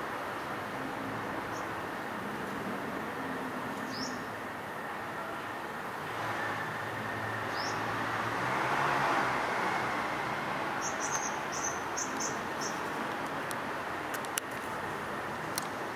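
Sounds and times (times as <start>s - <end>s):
traffic hum: 0.0s - 15.9s.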